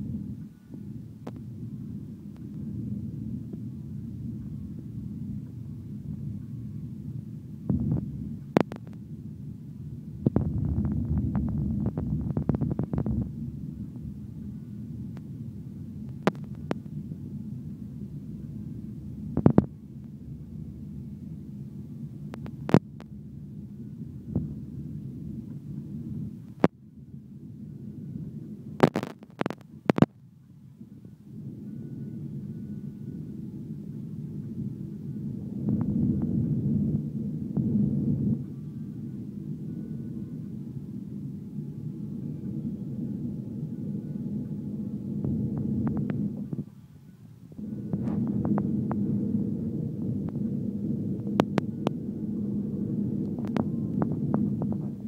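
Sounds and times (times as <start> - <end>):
jet cabin rumble: 0.0 - 55.0.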